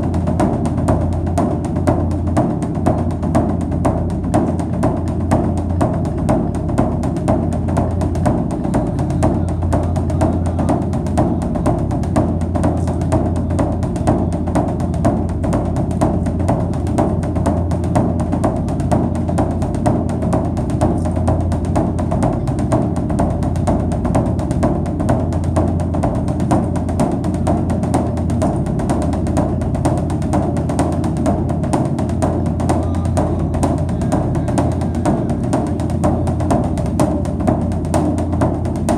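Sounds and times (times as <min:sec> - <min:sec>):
background music with drum beat: 0:00.0 - 0:38.9.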